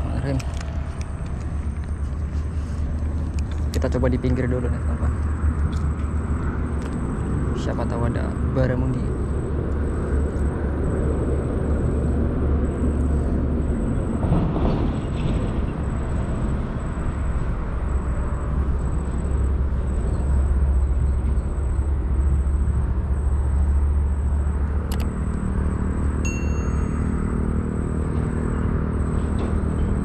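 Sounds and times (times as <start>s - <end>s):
faint high whine: 0.0s - 30.0s.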